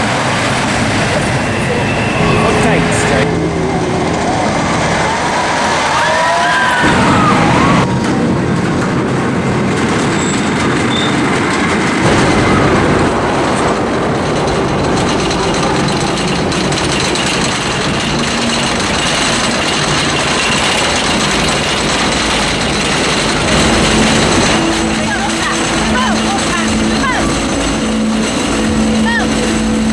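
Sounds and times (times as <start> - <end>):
roller coaster rumbling on track: 0.0 - 29.9.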